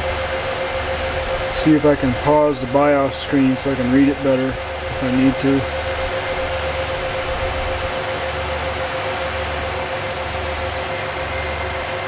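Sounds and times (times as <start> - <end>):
cooling fans whirring: 0.0 - 12.0
low pulsing hum: 0.0 - 12.0.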